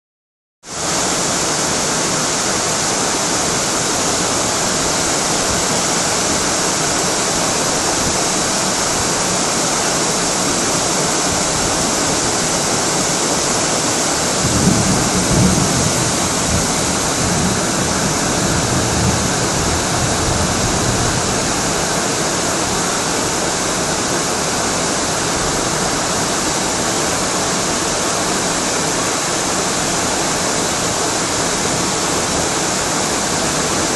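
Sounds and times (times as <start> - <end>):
rain: 0.6 - 33.9
wind gusts: 0.9 - 33.9.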